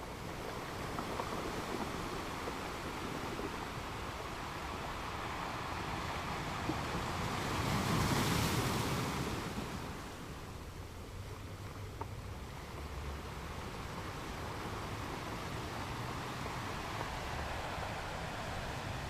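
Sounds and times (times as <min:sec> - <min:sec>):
ocean surf: 0:00.0 - 0:19.0.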